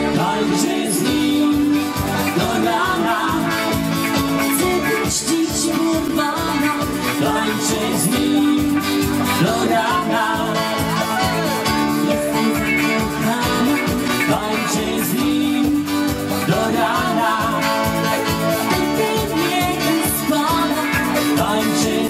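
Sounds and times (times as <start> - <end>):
dance music with singing: 0.0 - 22.0.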